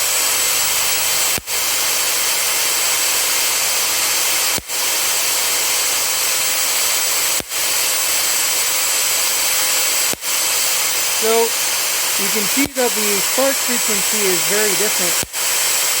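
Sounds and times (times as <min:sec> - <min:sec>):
electrostatic generator hissing: 0:00.0 - 0:16.0.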